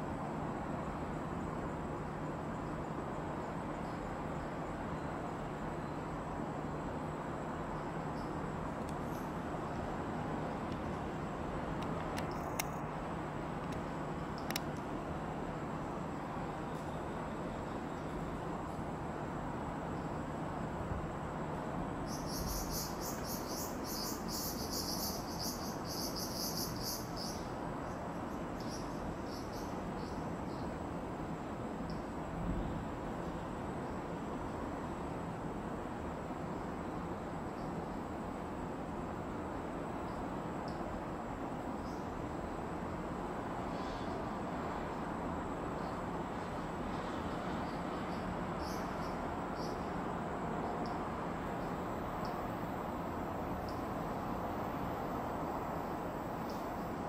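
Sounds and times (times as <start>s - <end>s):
insect chirping: 0.0s - 35.2s, 35.8s - 57.0s
faint high-pitched whine: 0.0s - 57.0s
low rumble and hiss: 0.0s - 57.0s.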